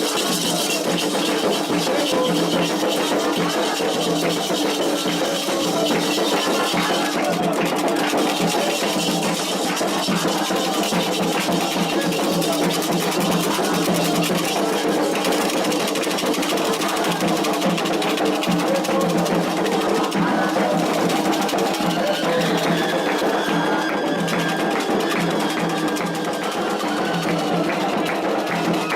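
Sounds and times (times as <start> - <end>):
drums and percussion: 0.0 - 28.9
voices singing: 0.0 - 28.9.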